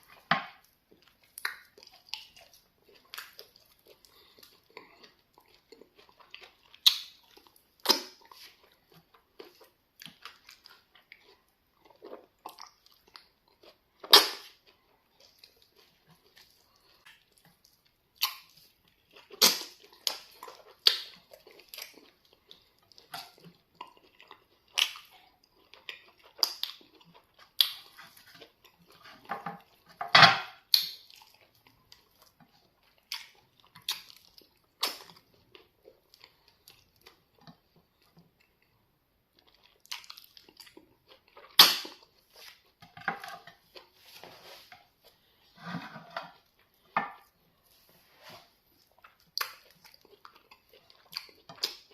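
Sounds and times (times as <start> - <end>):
wet smacking and chewing: 0.0 - 30.0, 30.6 - 45.5, 48.6 - 51.9.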